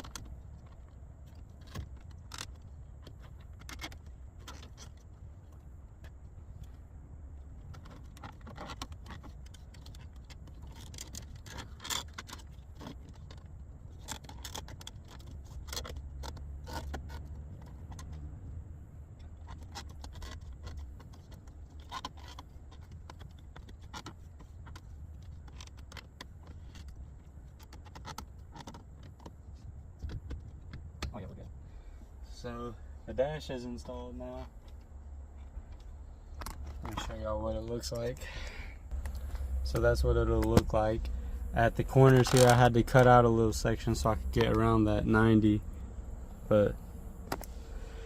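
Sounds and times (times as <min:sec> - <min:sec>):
low steady rumble: 0:00.0 - 0:48.0.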